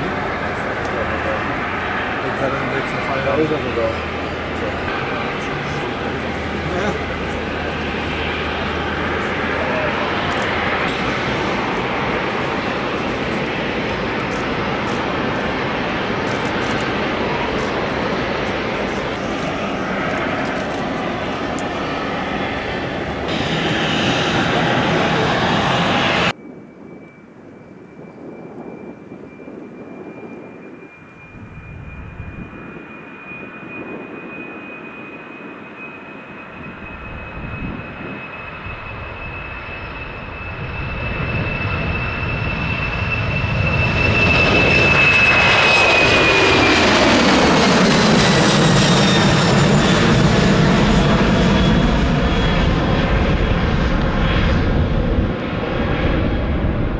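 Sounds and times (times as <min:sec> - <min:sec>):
jet airliner flying past: 0:00.0 - 0:56.9.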